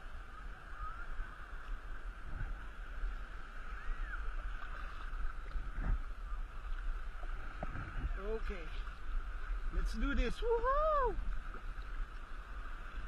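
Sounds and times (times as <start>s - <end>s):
water lapping: 0.0s - 13.0s
wind rumbling on microphone: 0.0s - 13.0s
paddle strokes: 1.1s - 13.0s.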